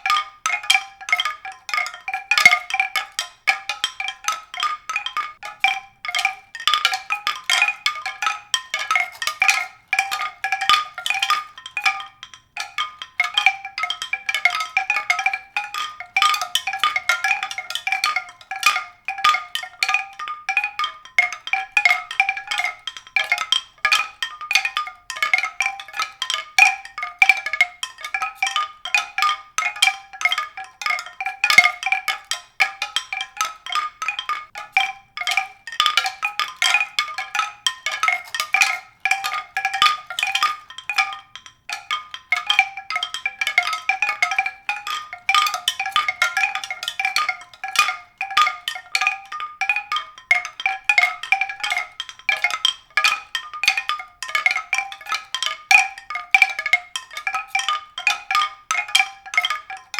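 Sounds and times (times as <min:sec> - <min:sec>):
bell-like tuned percussion: 0:00.0 - 0:59.9.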